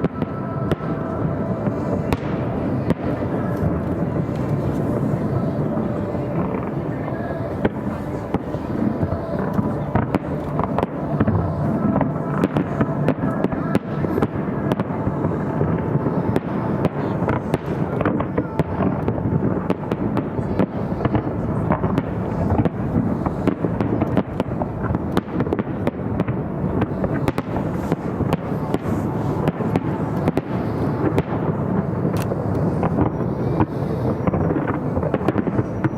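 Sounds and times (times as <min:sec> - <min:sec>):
fireworks bangs and crackles: 0:00.0 - 0:35.9.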